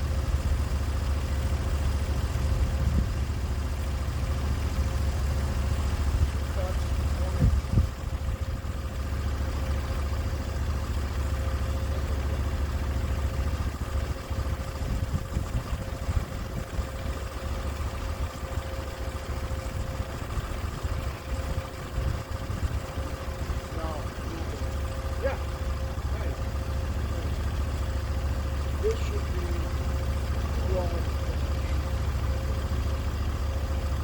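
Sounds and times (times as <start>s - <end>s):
sawmill engine running: 0.0s - 34.0s.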